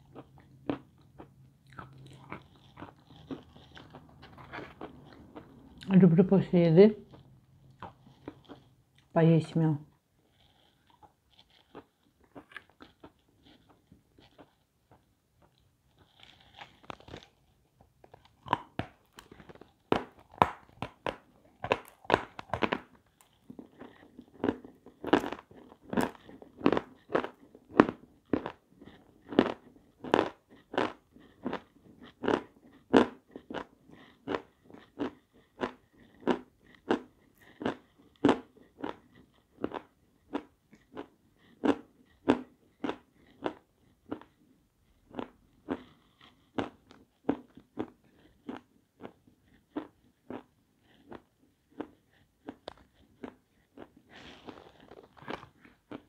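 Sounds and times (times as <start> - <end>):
chalk being chewed with crunching: 0.0 - 5.9, 7.1 - 9.1, 9.9 - 56.0.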